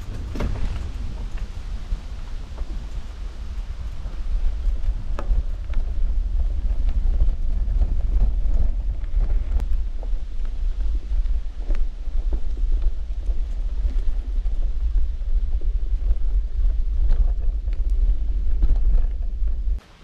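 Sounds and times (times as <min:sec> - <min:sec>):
wind buffeting microphone: 0:00.0 - 0:19.8
footsteps on dirt trail: 0:00.0 - 0:19.9.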